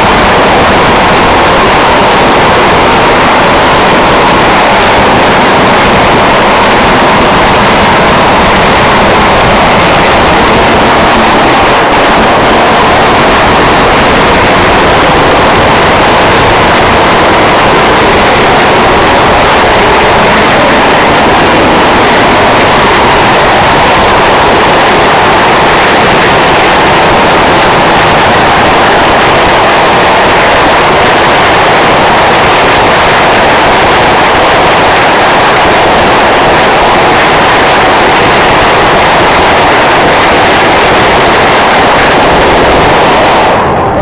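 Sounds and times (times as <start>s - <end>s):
firecrackers crackling: 0.0s - 44.0s.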